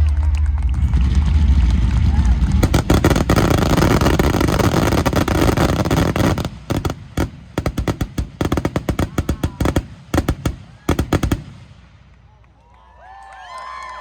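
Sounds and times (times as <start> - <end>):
fireworks bangs and cracks: 0.0 - 12.3.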